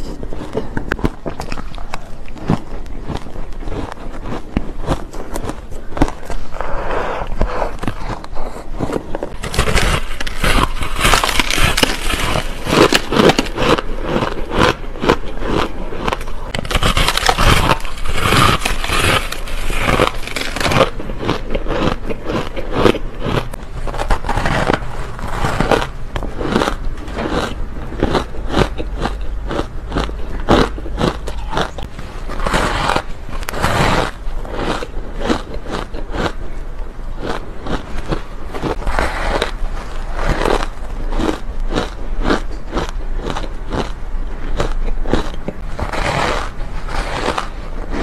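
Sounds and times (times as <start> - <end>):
ice being chewed: 0.0 - 48.0.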